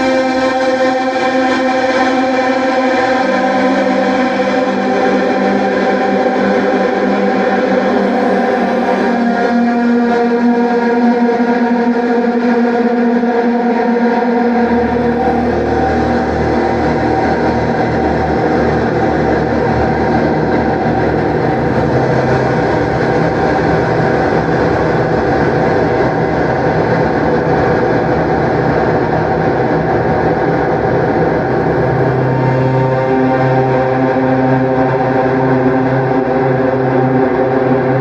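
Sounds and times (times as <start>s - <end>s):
ambient clarinet drone with reverb: 0.0s - 38.0s.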